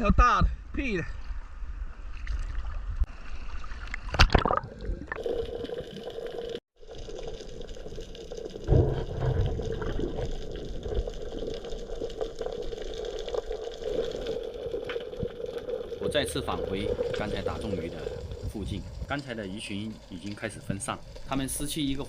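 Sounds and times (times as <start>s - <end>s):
underwater water noise: 1.2s - 22.0s.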